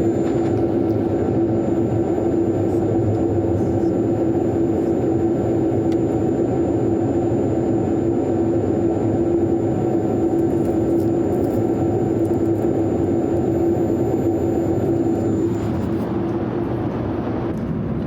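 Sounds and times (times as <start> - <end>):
airflow and engine rush: 0.0 - 18.0
airplane cabin noise: 0.0 - 18.0
constant low hum: 0.0 - 18.0.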